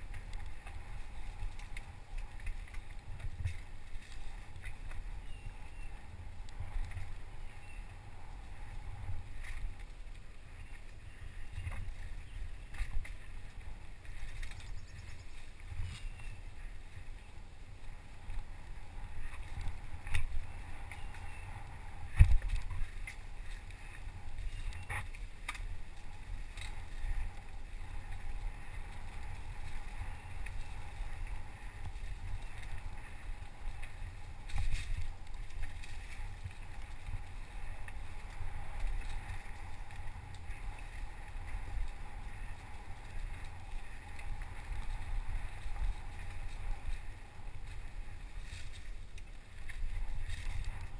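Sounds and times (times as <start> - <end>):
rattle riding over bumpy trail: 0.0 - 50.9
wind rumble on microphone: 0.0 - 50.9.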